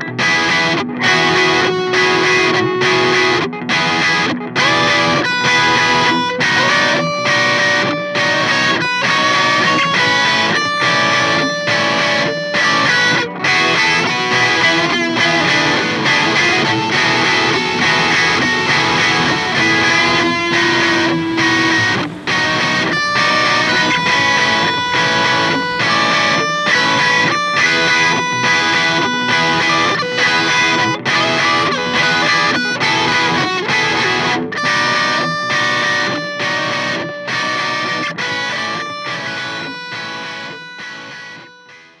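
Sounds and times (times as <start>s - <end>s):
guitar music with steady beat: 0.0s - 42.0s.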